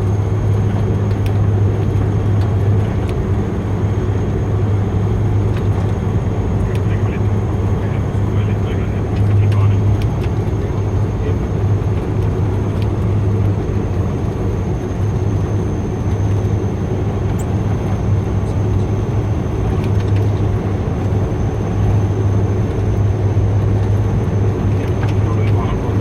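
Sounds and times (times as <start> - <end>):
low propeller drone: 0.0 - 26.0.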